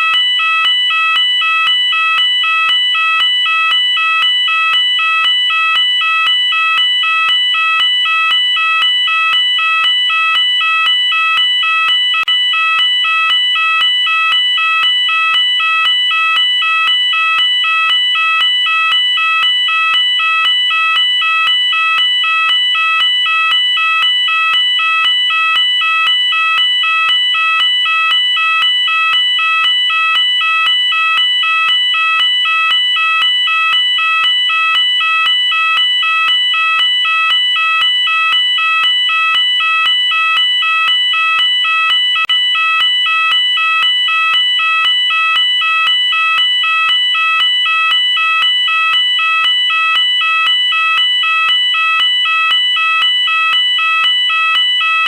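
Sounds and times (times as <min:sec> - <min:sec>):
fire alarm warbling: 0:00.0 - 0:55.0.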